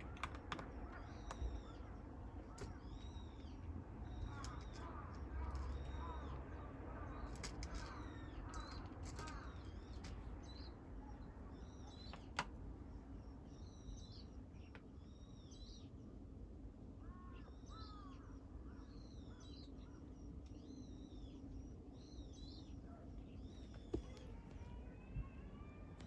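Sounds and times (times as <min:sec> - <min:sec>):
birds high calls: 0:00.0 - 0:16.0, 0:17.0 - 0:26.0.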